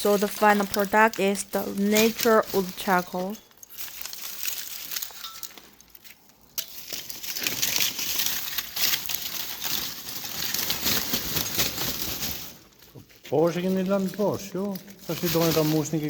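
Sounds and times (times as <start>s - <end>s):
furnace crackling and rushing: 0.0s - 16.0s.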